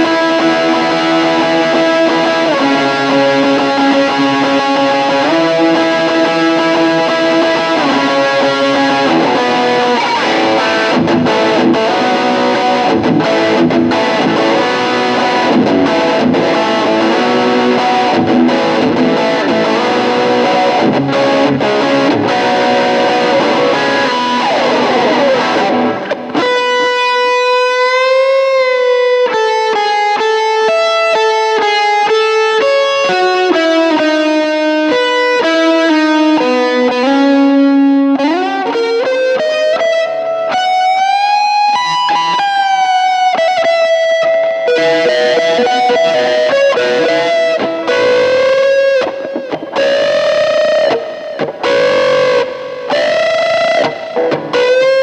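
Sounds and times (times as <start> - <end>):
overdriven electric guitar solo: 0.0 - 55.0.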